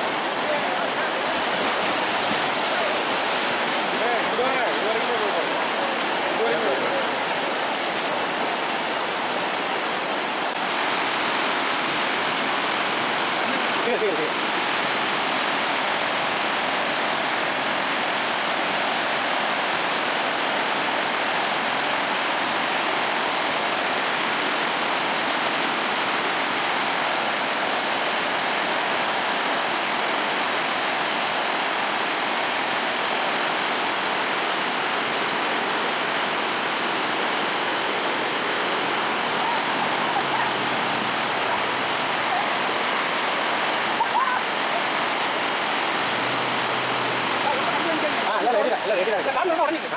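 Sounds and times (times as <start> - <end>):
river rapids rushing: 0.0 - 49.9.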